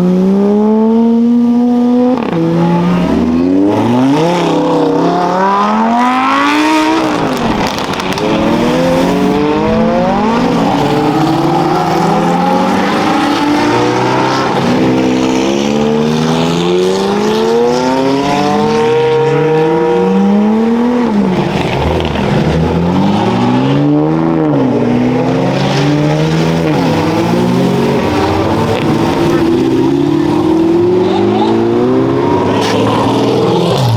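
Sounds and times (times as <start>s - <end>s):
race car engines at full throttle: 0.0s - 33.9s.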